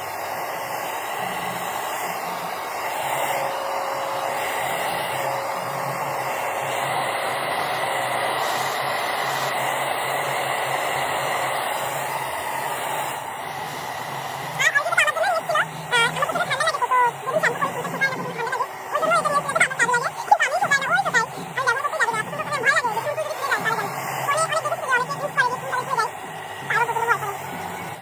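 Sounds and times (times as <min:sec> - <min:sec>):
hair dryer blowing air: 0:00.0 - 0:28.0.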